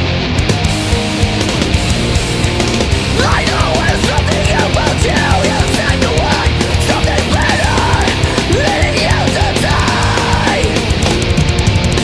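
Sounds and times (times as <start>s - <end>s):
heavy metal music: 0.0s - 12.0s
pitch-bending lead guitar line: 0.0s - 12.0s
fast drum hits: 0.4s - 12.0s.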